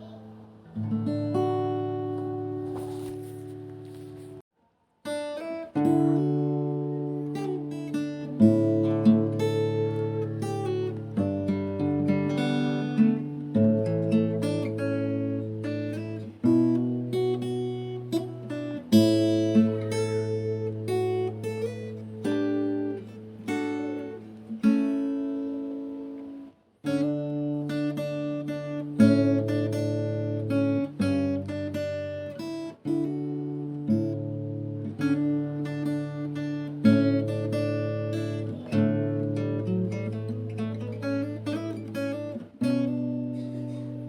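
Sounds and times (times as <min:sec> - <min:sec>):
acoustic guitar playing: 0:00.0 - 0:04.4, 0:05.0 - 0:44.0.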